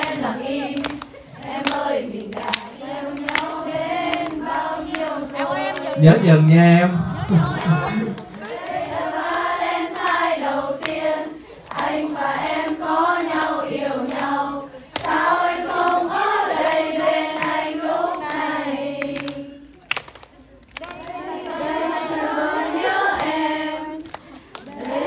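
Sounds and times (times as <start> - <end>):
hand claps: 0.0 - 6.0, 7.3 - 11.0, 11.7 - 22.3, 24.0 - 25.0
voices singing unaccompanied: 0.0 - 20.0, 20.8 - 25.0.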